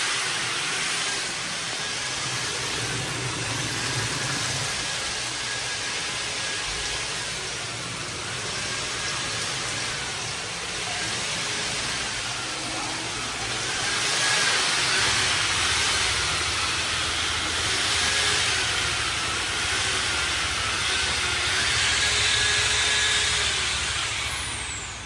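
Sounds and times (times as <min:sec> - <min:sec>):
drain cleaning machine motor hum: 0:00.0 - 0:25.0
faint wavering whine: 0:00.0 - 0:25.0.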